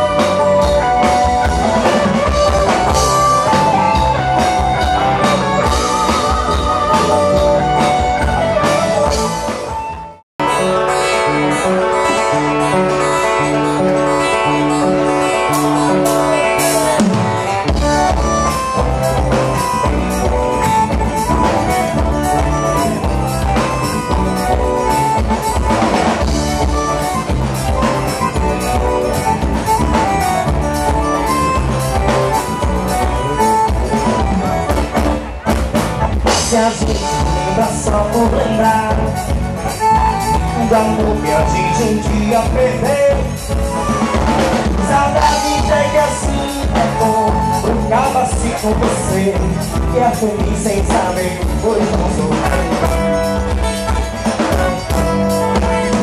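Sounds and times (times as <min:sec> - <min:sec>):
drum kit beat: 0:00.0 - 0:10.5, 0:15.1 - 0:56.0
acoustic guitar: 0:00.0 - 0:56.0.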